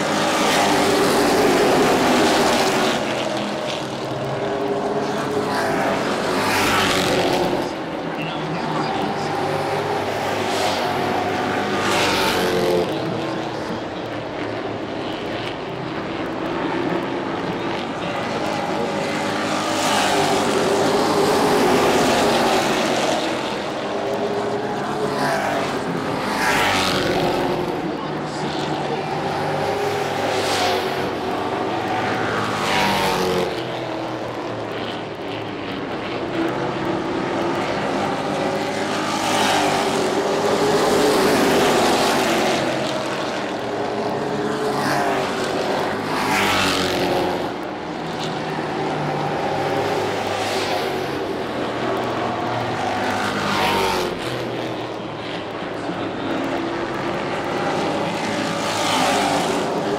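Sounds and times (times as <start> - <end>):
race trucks passing by: 0.0 - 59.9.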